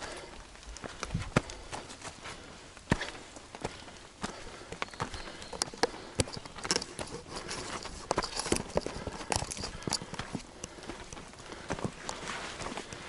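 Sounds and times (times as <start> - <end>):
footsteps on muddy dirt trail: 0.0 - 13.0.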